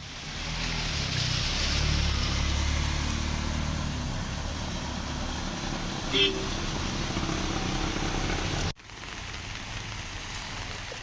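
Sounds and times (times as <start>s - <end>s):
tyres hissing through water: 0.0s - 11.0s
vehicle engine hum: 0.0s - 11.0s.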